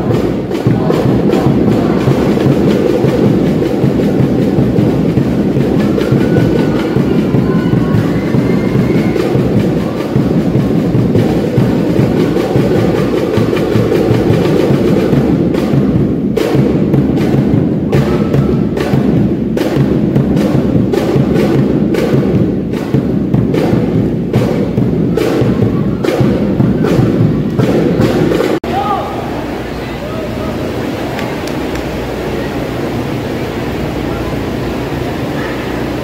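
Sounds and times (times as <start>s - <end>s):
cheer-dance music with heavy drum beat: 0.0s - 29.0s.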